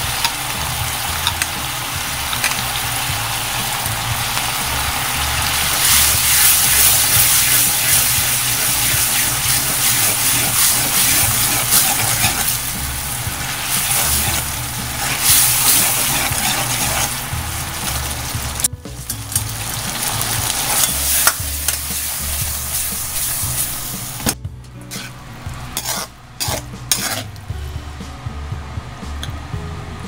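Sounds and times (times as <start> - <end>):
eggplant sizzling in a wok: 0.0 - 27.6
spatula stirring in a wok: 0.1 - 18.6, 19.4 - 24.3, 24.9 - 25.2, 25.8 - 27.4.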